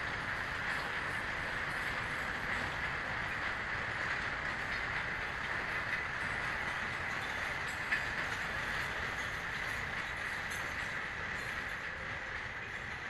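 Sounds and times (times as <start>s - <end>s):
train wheels rattling on rails: 0.0s - 13.0s.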